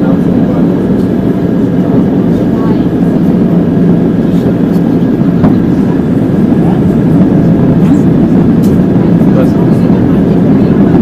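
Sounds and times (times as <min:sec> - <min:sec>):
jet engine drone: 0:00.0 - 0:11.0
rushing airflow: 0:00.0 - 0:11.0.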